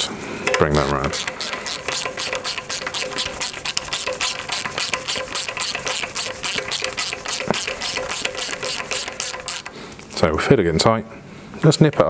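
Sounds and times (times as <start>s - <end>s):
ratchet clicking rapidly: 0.5s - 10.2s.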